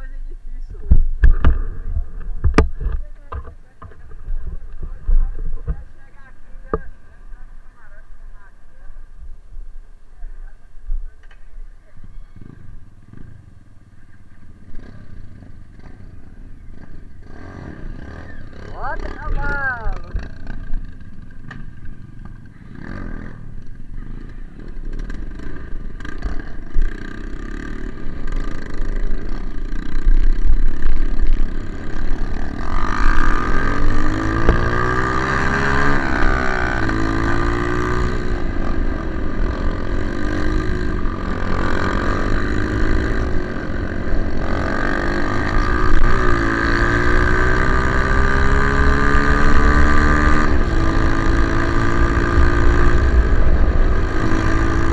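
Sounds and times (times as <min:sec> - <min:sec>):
trail motorcycles accelerating: 0:00.0 - 0:54.9.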